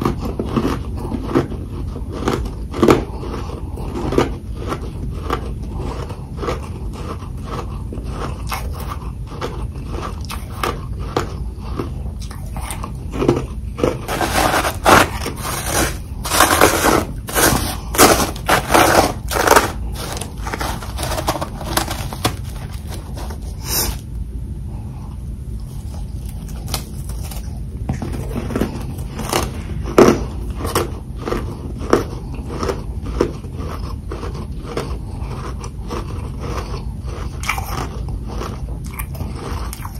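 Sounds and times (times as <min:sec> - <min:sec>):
frost being chewed crunching: 0:00.0 - 0:24.1, 0:25.5 - 0:39.9.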